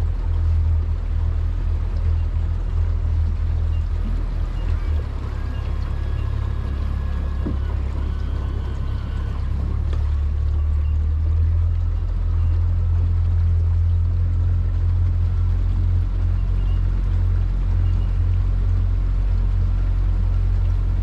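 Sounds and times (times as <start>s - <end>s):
outboard motor droning: 0.0s - 21.0s
water noise from hull: 0.0s - 21.0s.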